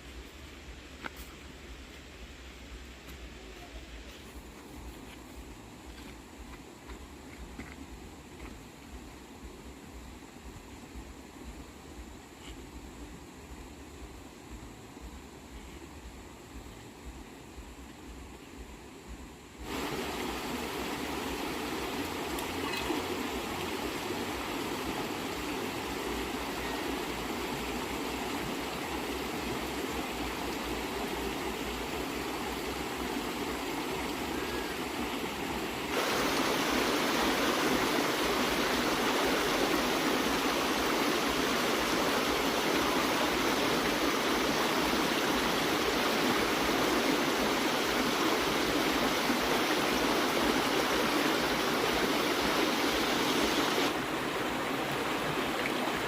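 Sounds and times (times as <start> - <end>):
steady rushing hissing noise: 0.0 - 56.0.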